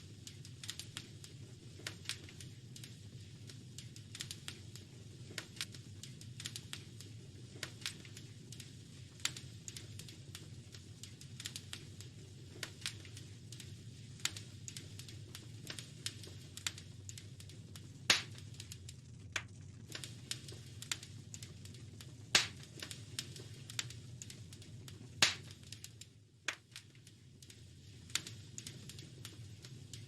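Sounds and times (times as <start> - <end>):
wood fire crackling: 0.0 - 30.0
loud fire pops: 0.2 - 30.0.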